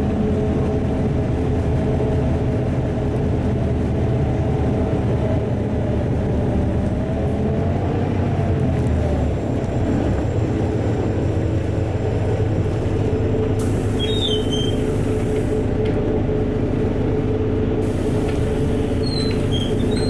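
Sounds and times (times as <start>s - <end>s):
bus engine drone: 0.0s - 20.0s
whine and road noise: 0.0s - 20.0s.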